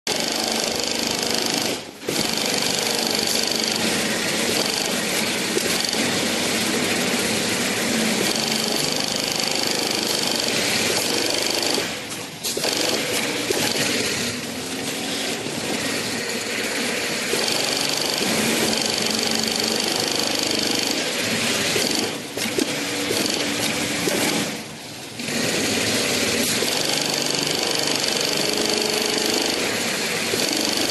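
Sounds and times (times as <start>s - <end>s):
industrial sewing machine stitching: 0.1s - 30.9s.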